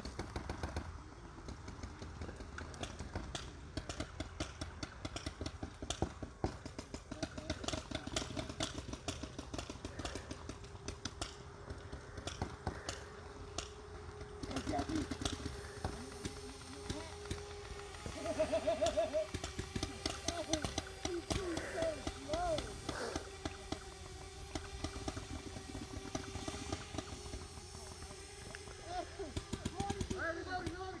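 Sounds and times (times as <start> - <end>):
paintball markers firing: 0.0 - 31.0
steady low hum: 0.0 - 31.0.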